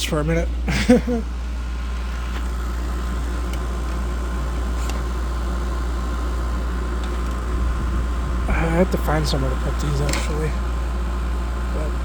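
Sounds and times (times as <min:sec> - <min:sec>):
compressor hum: 0:00.0 - 0:12.0
faint steady whine: 0:00.0 - 0:12.0
fan-blown air noise: 0:00.0 - 0:12.0.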